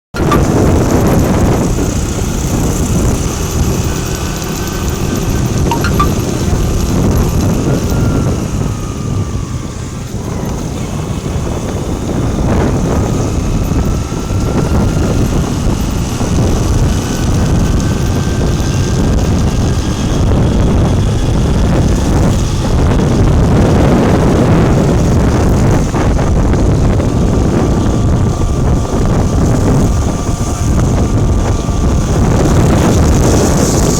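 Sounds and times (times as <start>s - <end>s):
vehicle and wind rumble: 0.2s - 33.9s.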